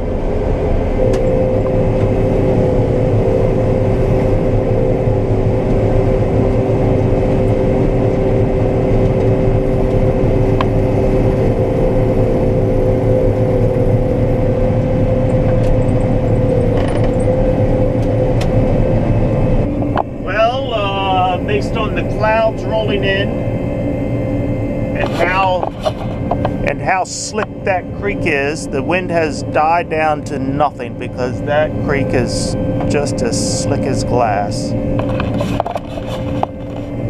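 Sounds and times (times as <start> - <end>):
combine harvester droning: 0.0 - 37.0
mid-pitched whine: 0.0 - 37.0.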